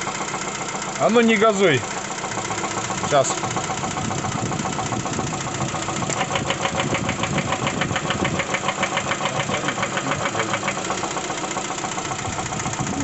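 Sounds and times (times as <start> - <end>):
engine idling with rapid knock: 0.0 - 13.0.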